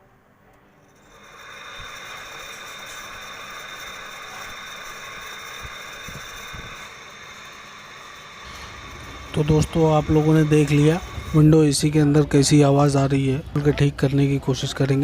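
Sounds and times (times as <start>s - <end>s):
air conditioner running with high tone: 0.0s - 15.0s.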